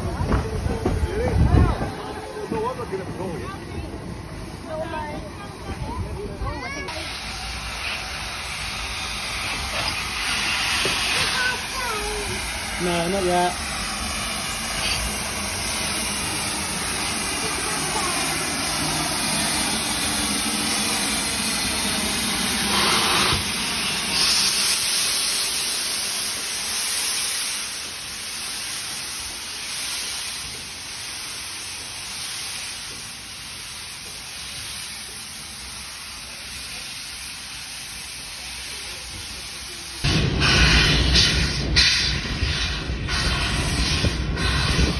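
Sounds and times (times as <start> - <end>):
steam locomotive hissing: 0.0 - 44.9
loud burst of steam hiss: 6.4 - 44.9.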